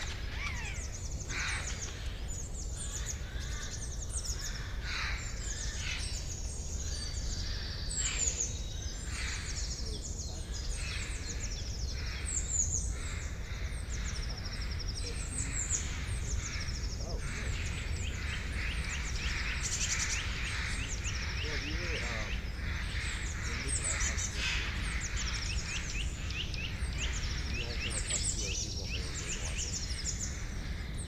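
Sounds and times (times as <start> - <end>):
harsh low bird calls: 0.0 - 31.0
small birds chirping and trilling: 0.0 - 31.0.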